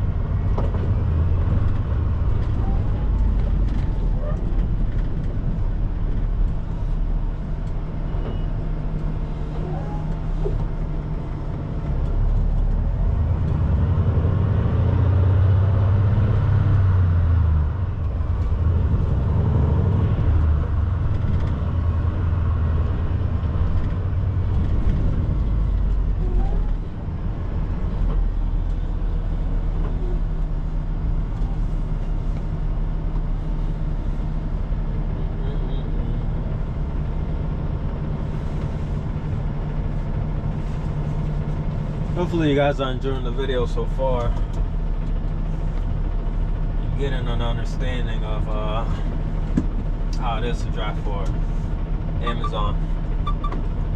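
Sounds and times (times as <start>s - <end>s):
road noise: 0.0s - 53.9s
truck diesel engine driving: 0.0s - 53.9s.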